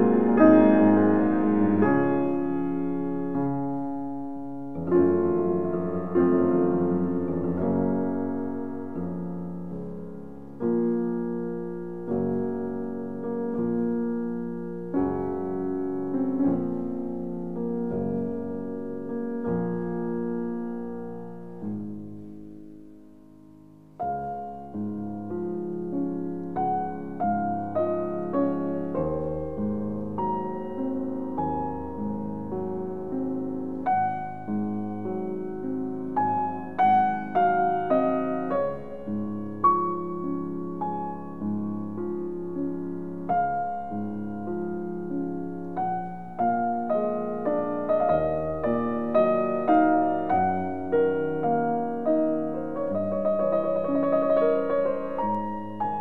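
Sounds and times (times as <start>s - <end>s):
solo piano music: 0.0s - 56.0s.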